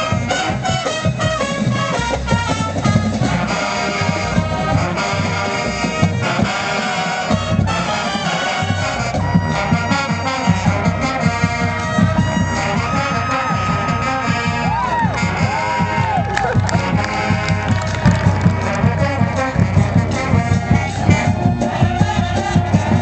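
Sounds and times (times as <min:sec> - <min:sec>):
marching band playing: 0:00.0 - 0:23.0
steady drum beat: 0:00.0 - 0:23.0.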